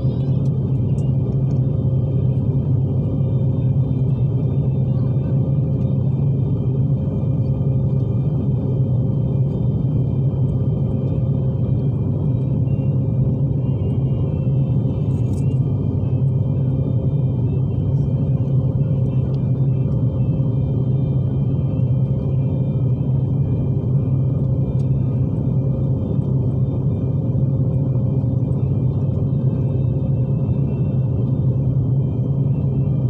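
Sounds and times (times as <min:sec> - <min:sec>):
jet engine rumble in cabin: 0:00.0 - 0:33.0
steady hum: 0:00.0 - 0:33.0.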